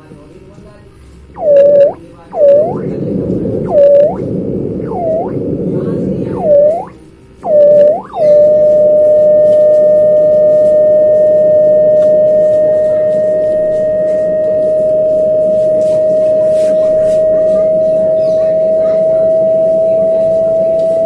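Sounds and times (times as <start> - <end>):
speaker whistling tone: 1.3 - 21.0.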